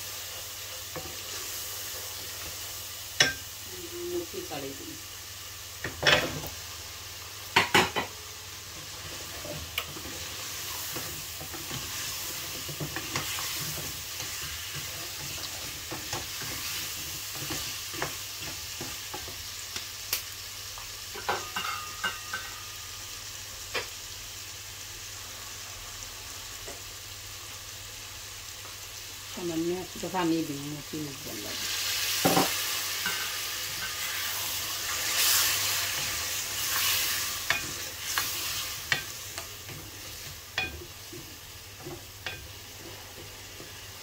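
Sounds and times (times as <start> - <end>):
frying hiss: 0.0 - 44.0.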